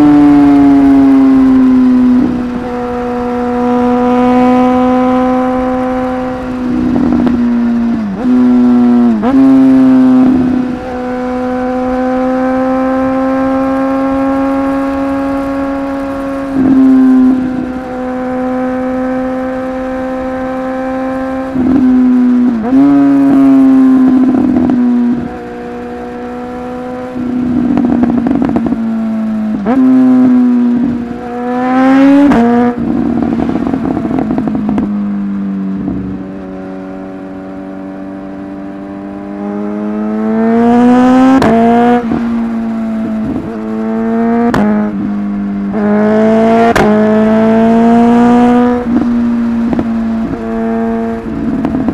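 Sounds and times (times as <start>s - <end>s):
motorcycle engine revving through gears: 0.0s - 51.9s.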